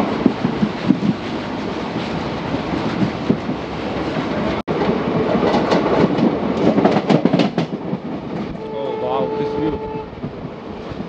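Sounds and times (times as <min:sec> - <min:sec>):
train wheels clickety-clack on rails: 0:00.0 - 0:08.7, 0:09.3 - 0:11.0.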